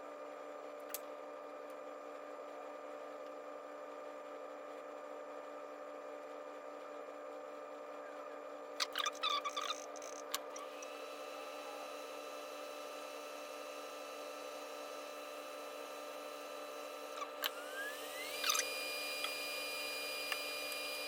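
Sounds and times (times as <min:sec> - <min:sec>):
soldering equipment hum and whine: 0:00.0 - 0:21.0.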